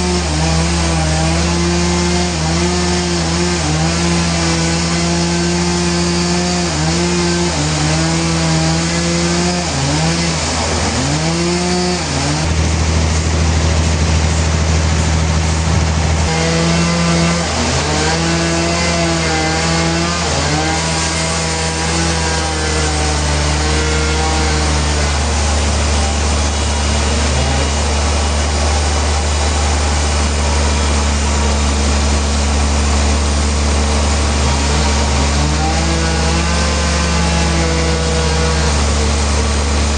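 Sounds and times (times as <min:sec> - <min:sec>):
motor-driven saw cutting log: 0:00.0 - 0:39.9.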